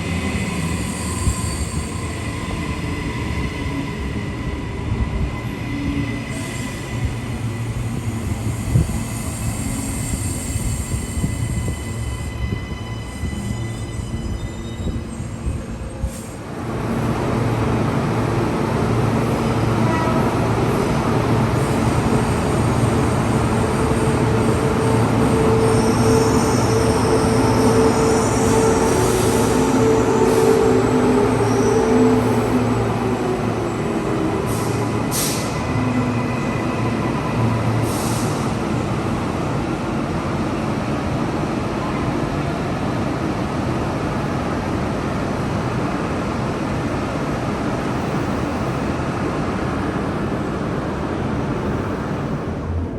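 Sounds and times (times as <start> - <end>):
train wheels rumbling on track: 0.0 - 52.9.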